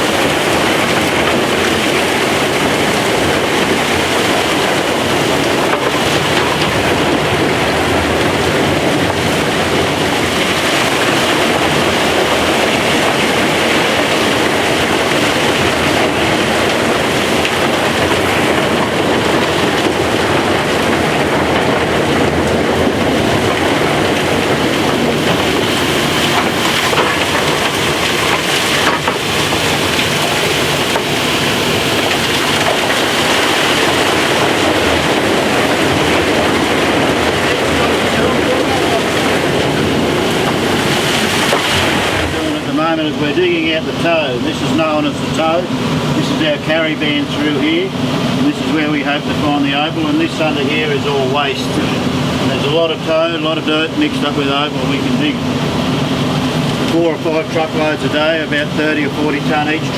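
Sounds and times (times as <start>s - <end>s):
digging machinery running: 0.0s - 59.9s.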